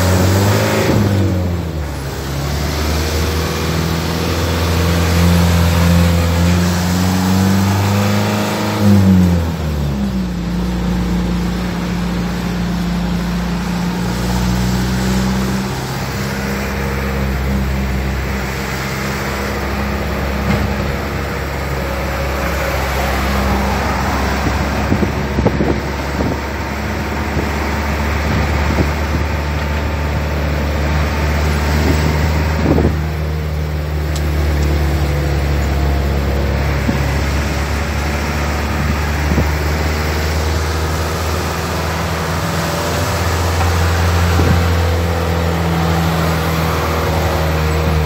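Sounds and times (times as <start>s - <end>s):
car engine drone: 0.0s - 48.0s
tyre and road noise: 0.0s - 48.0s.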